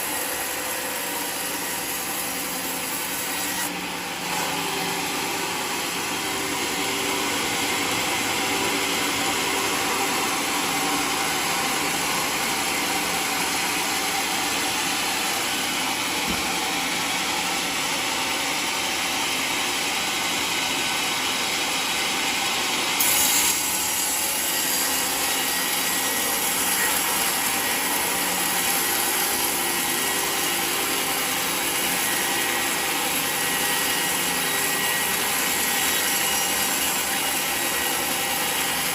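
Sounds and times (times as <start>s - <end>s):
sawmill cutting log: 0.0s - 38.9s.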